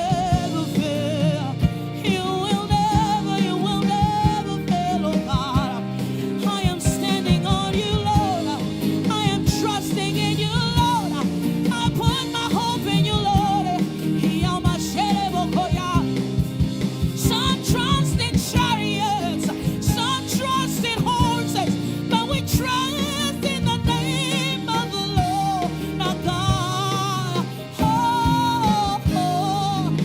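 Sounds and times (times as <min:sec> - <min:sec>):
drum kit: 0:00.0 - 0:30.0
guitar: 0:00.0 - 0:30.0
person singing gospel song: 0:00.0 - 0:30.0.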